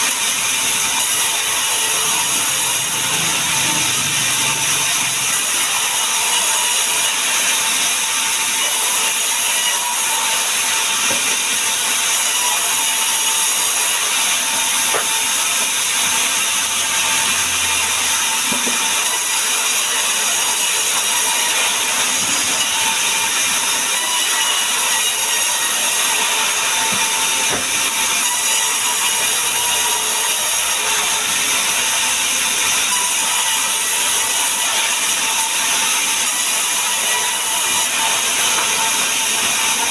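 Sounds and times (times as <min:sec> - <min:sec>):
woodworking machine running: 0:00.0 - 0:39.9.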